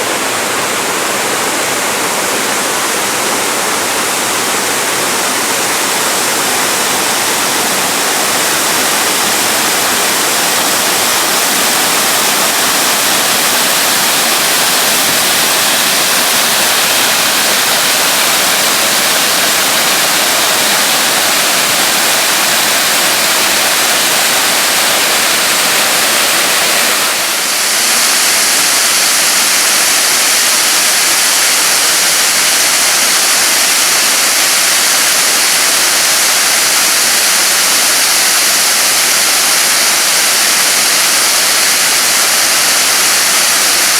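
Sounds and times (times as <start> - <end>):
waterfall pouring: 0.0 - 43.9.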